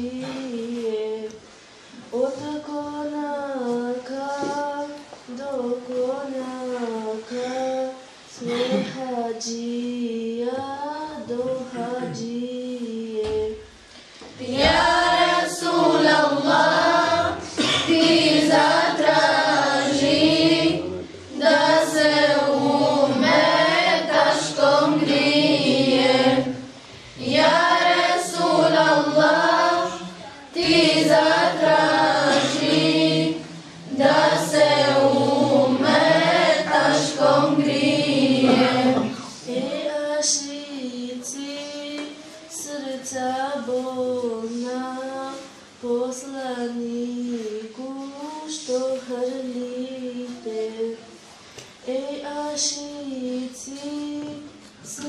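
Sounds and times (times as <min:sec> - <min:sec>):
group singing devotional song: 0:00.0 - 0:01.4, 0:02.0 - 0:55.0.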